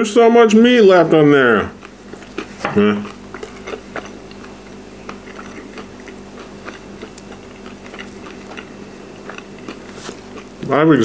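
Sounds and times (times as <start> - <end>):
steady low hum: 0.0 - 11.0
crackly clicks of eating fried chicken: 1.7 - 11.0.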